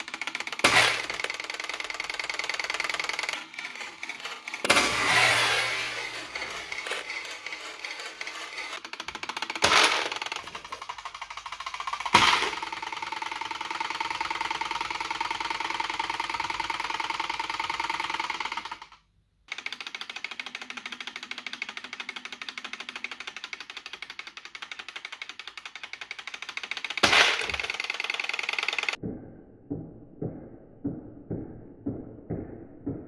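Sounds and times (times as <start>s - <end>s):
wind-up toy ticking: 0.0s - 4.7s, 5.7s - 29.0s.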